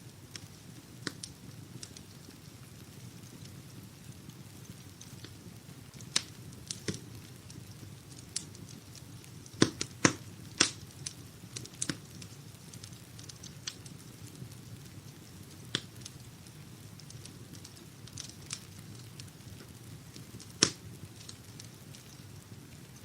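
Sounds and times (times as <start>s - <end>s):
fire crackles and pops: 0.0s - 23.0s
fire low rumble: 0.0s - 23.0s.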